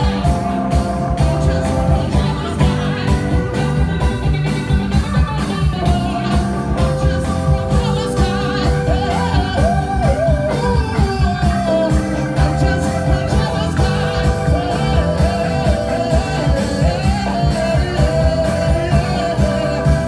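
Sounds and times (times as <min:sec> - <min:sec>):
live band playing: 0:00.0 - 0:20.0
man singing: 0:00.0 - 0:20.0.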